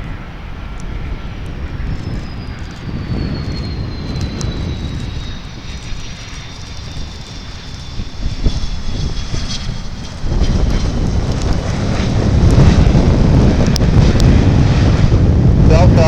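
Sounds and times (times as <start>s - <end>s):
jet engines whining: 0.0s - 16.0s
low rumble: 0.0s - 16.0s
wind buffeting microphone: 0.0s - 16.0s.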